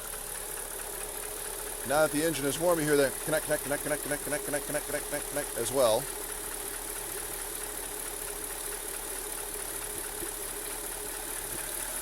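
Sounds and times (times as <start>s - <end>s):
car engine idling: 0.0s - 12.0s
light engine ticking: 0.0s - 12.0s.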